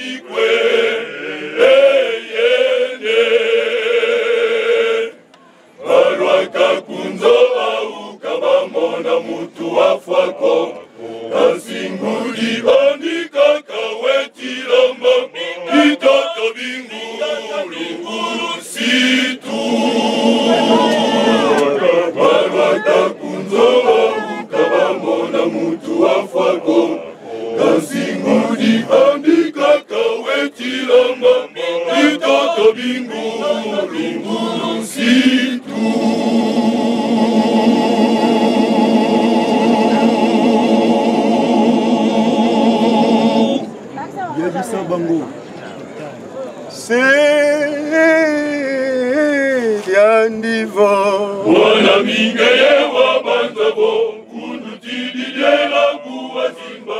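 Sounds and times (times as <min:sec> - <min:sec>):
men's choir singing: 0:00.0 - 0:05.2, 0:05.8 - 0:43.9, 0:46.8 - 0:56.9.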